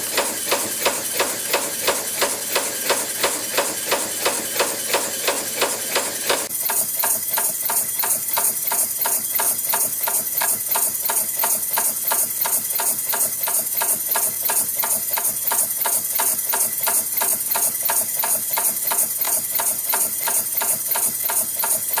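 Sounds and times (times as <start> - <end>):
spring forming machine clacking: 0.0 - 22.0.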